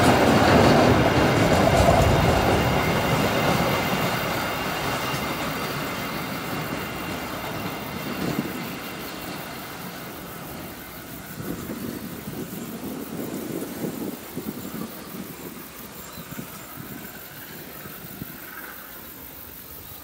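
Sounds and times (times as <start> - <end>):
train wheels rumbling and knocking: 0.0 - 19.0.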